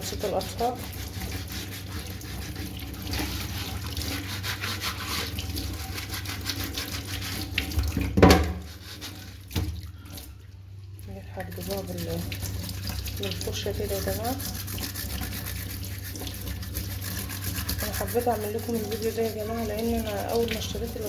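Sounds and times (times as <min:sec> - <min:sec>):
tap water running and splashing: 0:00.0 - 0:21.0.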